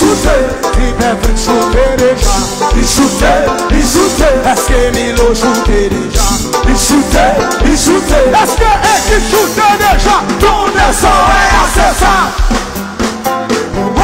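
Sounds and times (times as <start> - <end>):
live band playing dance music: 0.0 - 14.0.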